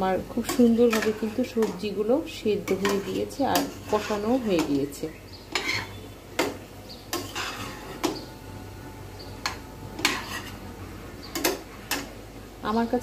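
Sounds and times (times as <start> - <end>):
metal spatula scraping pot: 0.4 - 8.3, 9.4 - 12.1.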